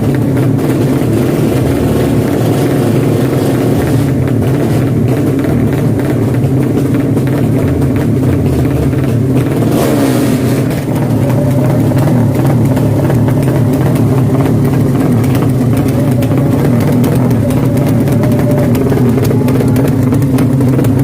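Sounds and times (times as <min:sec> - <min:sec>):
drag racing engines revving: 0:00.0 - 0:21.0.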